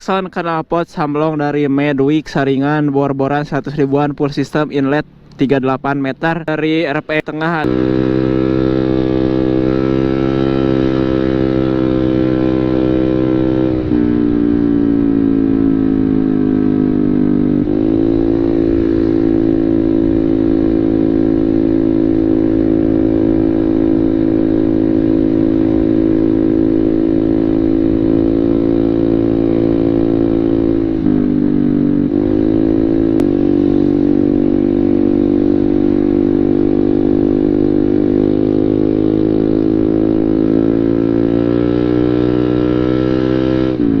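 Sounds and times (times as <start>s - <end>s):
motorcycle exhaust note: 7.4s - 44.0s.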